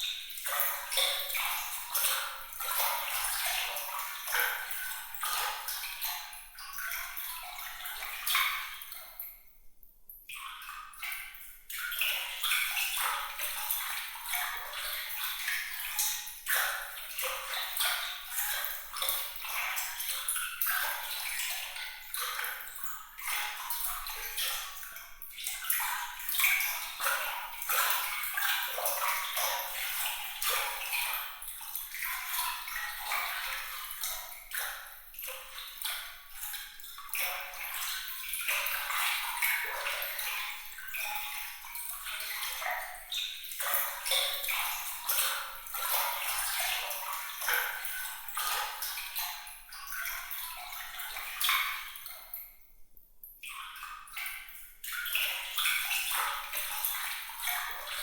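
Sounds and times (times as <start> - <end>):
water trickling and splashing: 0.0 - 52.7, 53.4 - 58.0.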